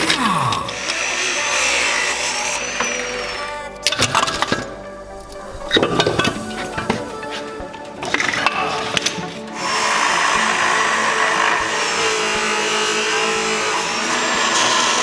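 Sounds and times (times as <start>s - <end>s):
angle grinder cutting steel: 0.0s - 4.8s, 5.6s - 15.0s.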